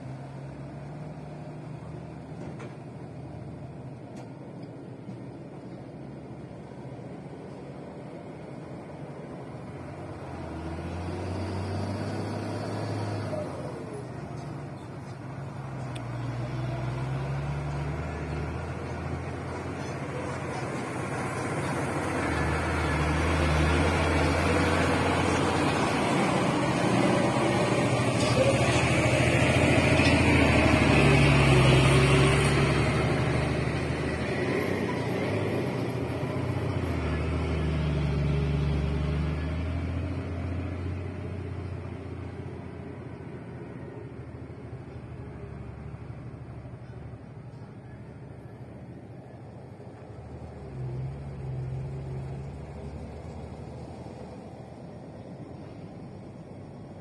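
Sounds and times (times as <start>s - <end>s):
heavy diesel trucks grinding: 0.0s - 57.0s.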